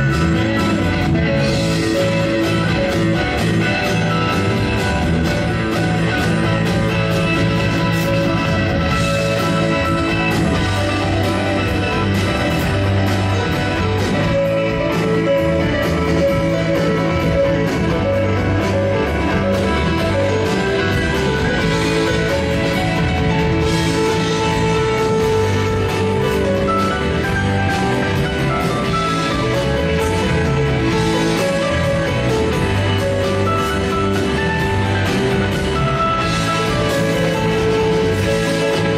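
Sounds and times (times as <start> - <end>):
bass guitar: 0.0 - 38.9
blues rock band playing: 0.0 - 38.9
electric guitar: 0.0 - 38.9
steady drum beat: 0.0 - 38.9.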